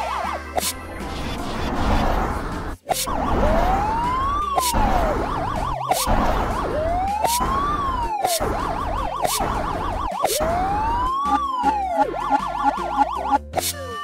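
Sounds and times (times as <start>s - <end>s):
police siren wail and yelp: 0.0s - 0.6s, 3.0s - 14.0s.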